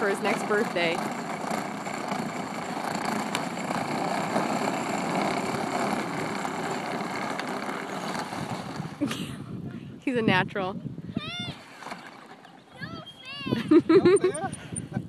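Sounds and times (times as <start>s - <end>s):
toy quad rolling and whirring: 0.0s - 9.3s, 11.2s - 15.0s.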